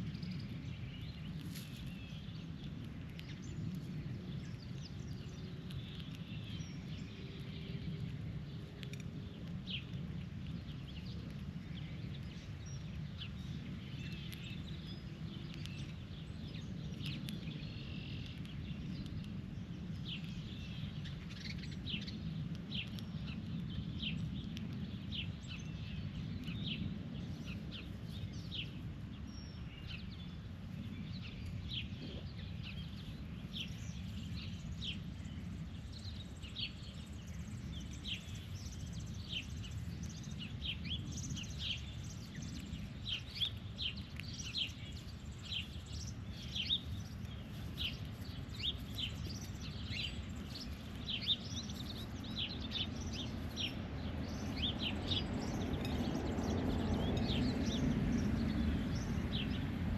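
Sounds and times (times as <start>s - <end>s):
birds chirping: 0.0s - 59.9s
low background rumble: 0.0s - 59.9s.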